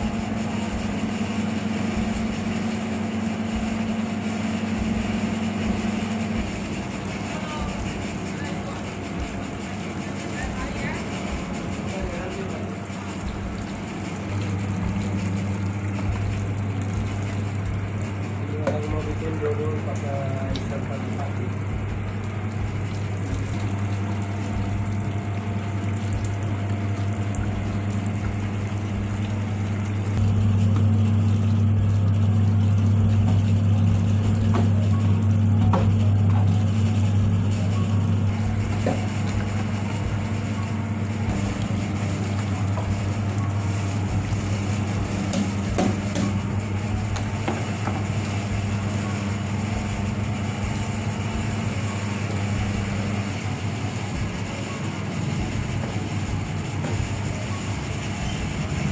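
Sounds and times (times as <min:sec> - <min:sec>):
coconut grating machine humming: 0:00.0 - 0:58.9.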